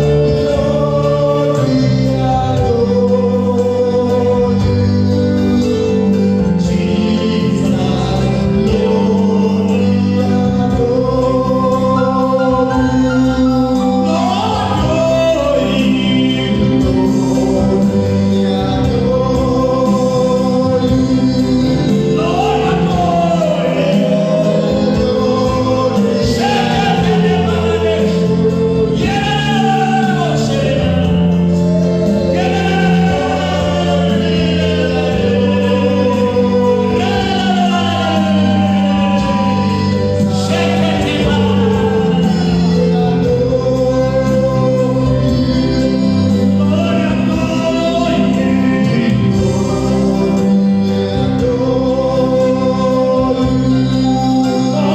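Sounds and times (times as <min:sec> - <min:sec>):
group gospel singing: 0:00.0 - 0:54.9
held instrumental chords: 0:00.0 - 0:54.9.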